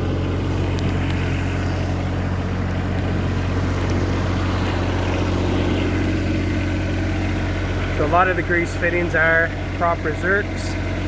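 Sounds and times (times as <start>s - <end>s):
diesel excavator engine idling: 0.0s - 11.0s.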